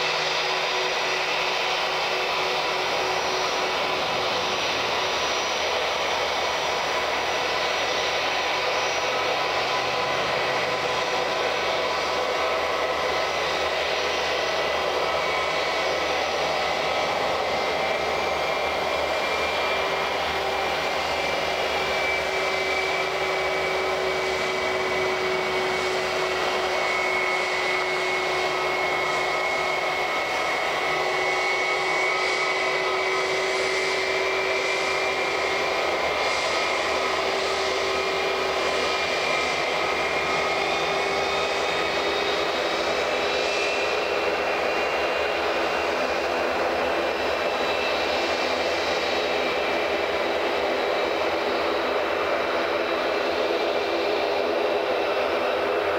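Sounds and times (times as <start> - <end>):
jet engines rushing with high whine: 0.0 - 55.9.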